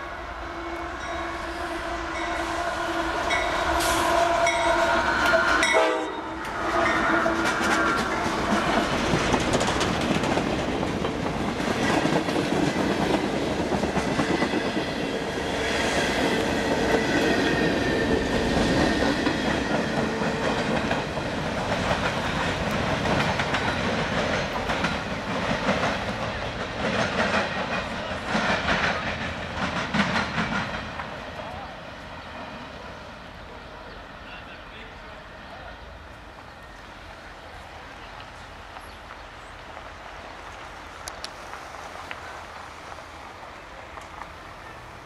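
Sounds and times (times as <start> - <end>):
freight train passing: 0.0 - 45.0.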